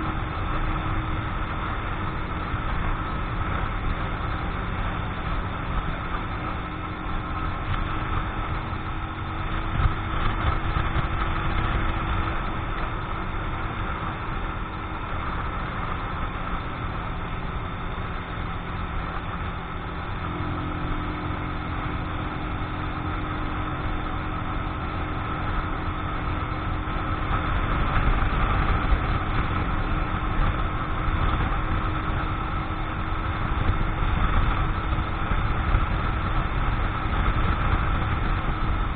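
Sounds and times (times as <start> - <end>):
motorcycle engine cruising: 0.0 - 38.9
wind rushing over microphone: 0.0 - 38.9.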